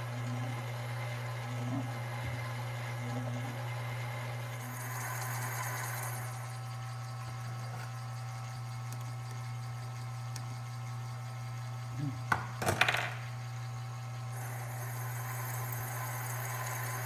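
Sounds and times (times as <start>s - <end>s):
lathe humming: 0.0s - 12.2s, 13.4s - 17.0s.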